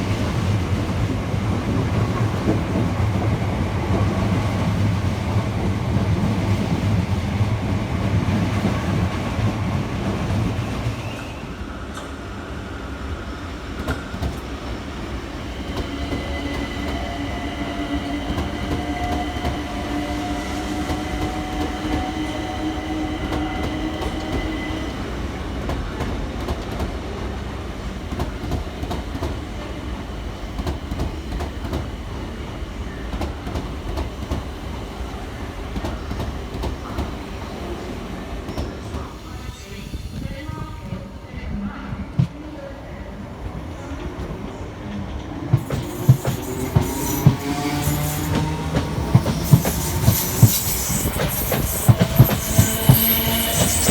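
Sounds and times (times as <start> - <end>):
train rumble: 0.0 - 12.4, 13.0 - 53.9.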